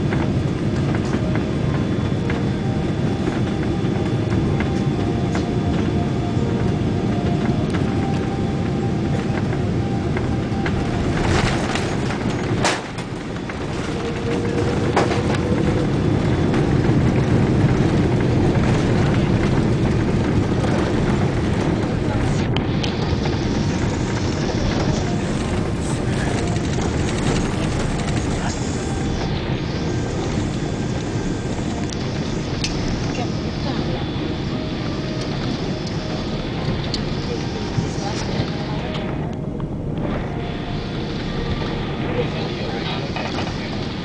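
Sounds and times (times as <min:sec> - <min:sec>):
aircraft cabin engine rumble: 0:00.0 - 0:44.0
faint steady whines: 0:00.0 - 0:44.0.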